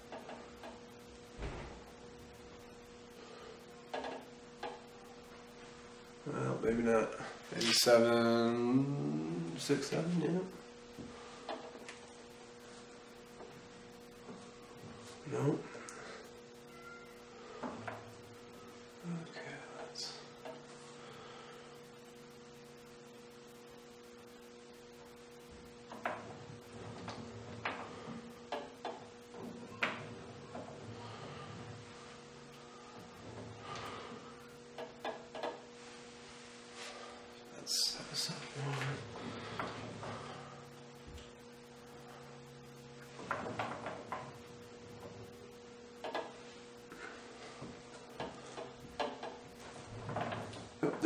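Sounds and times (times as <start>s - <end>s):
milling machine humming: 0.0s - 51.0s.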